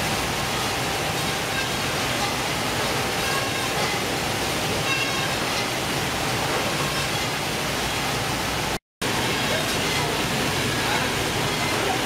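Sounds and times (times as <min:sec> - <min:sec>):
fish processing machinery running: 0:00.0 - 0:12.0.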